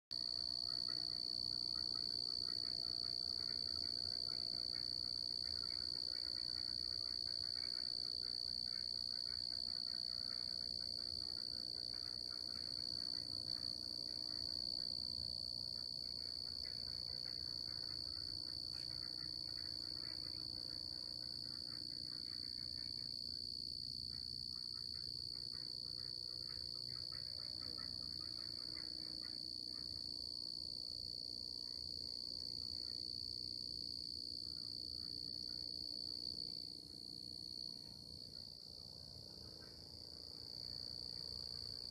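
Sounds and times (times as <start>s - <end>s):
crickets trilling: 0.1s - 41.9s.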